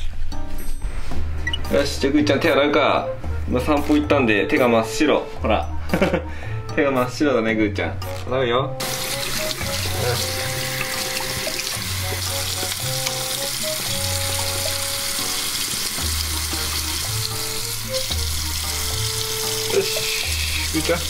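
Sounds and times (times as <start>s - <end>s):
background music with bassline: 0.0s - 15.3s, 16.0s - 21.0s.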